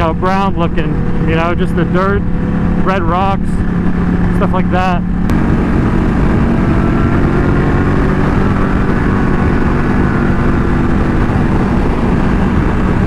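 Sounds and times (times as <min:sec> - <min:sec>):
motorcycle engine cruising: 0:00.0 - 0:13.0
road rumble: 0:00.0 - 0:13.0
wind: 0:00.0 - 0:13.0.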